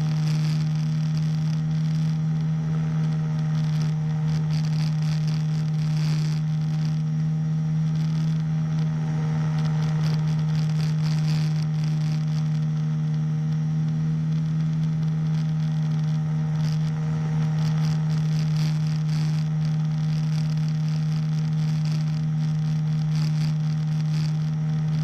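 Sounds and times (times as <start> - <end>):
small engine droning: 0.0 - 25.0.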